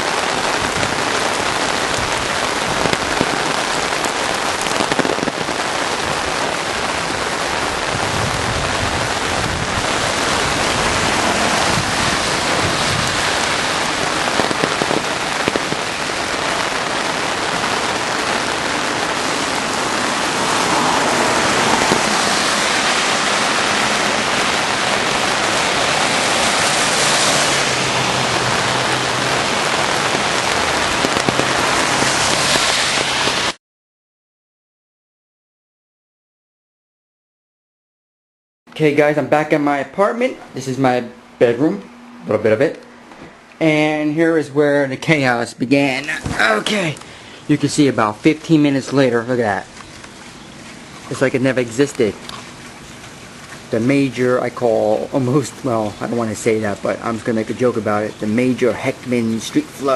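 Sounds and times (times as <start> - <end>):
heavy rain pouring: 0.0 - 33.6, 39.1 - 59.9.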